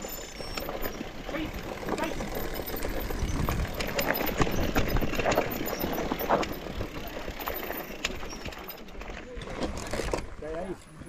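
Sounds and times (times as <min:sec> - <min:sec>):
bike rattling on rocky trail: 0:00.0 - 0:11.0.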